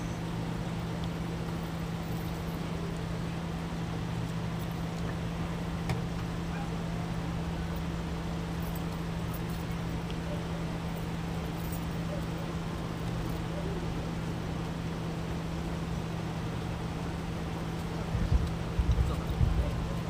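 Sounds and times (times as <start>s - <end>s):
street noise: 0.0s - 20.0s
vehicle engine idling: 0.0s - 20.0s.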